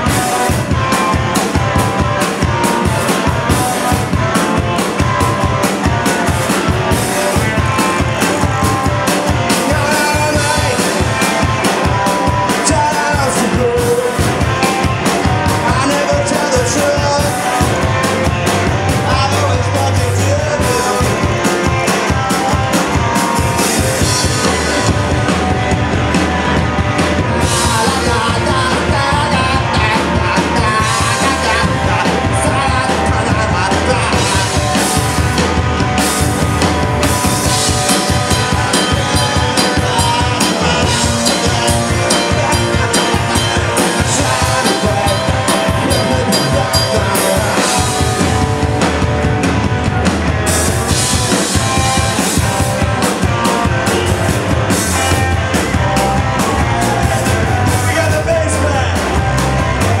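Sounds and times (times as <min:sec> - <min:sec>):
distorted electric guitars: 0:00.0 - 1:00.0
drum kit playing: 0:00.0 - 1:00.0.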